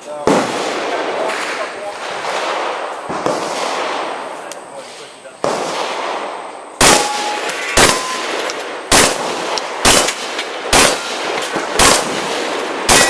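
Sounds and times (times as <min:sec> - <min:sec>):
shotgun shots: 0:00.2 - 0:13.0.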